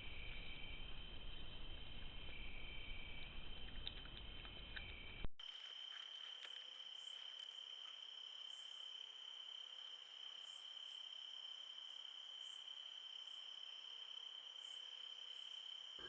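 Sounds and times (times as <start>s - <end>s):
crickets trilling: 0.0s - 16.0s
hissy cricket chirp: 0.0s - 16.0s.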